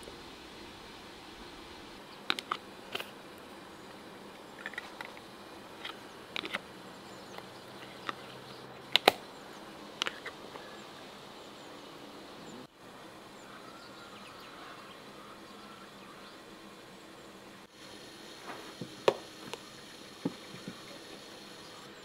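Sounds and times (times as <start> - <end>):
outdoor background: 0.0 - 22.0.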